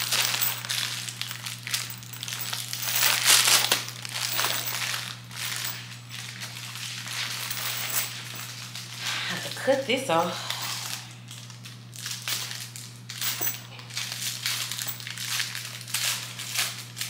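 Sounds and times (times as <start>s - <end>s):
packing wrap crumpling: 0.0s - 9.6s, 10.4s - 17.0s.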